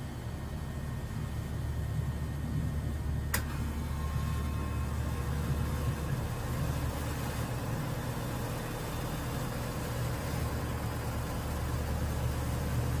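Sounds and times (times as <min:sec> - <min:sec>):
constant hiss: 0:00.0 - 0:13.0
low engine rumble: 0:00.0 - 0:13.0.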